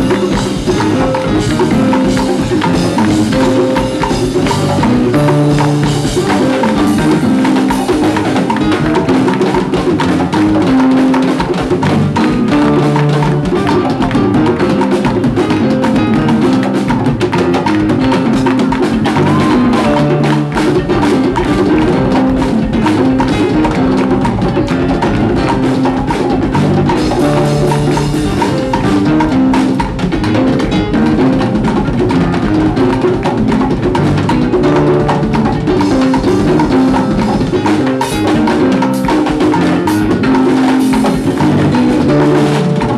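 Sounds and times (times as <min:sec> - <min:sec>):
congas: 0:00.0 - 0:42.9
drum kit: 0:00.0 - 0:42.9
salsa band playing: 0:00.0 - 0:42.9.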